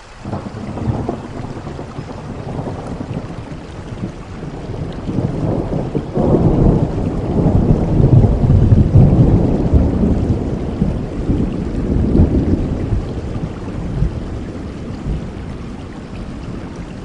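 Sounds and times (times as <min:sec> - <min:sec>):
steady rain: 0:00.0 - 0:17.0
thunder rumbling: 0:00.2 - 0:17.0.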